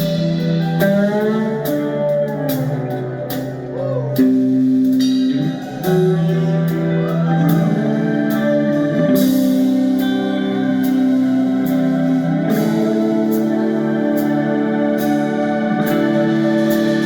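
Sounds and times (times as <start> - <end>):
electric guitar chords: 0.0 - 17.0
keyboard chords: 0.0 - 17.0.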